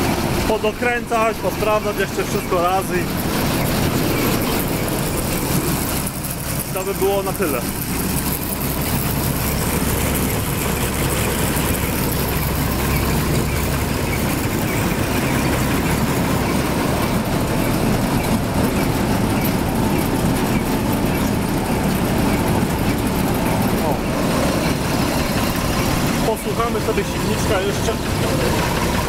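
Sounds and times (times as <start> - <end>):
combine harvester running: 0.0 - 29.0.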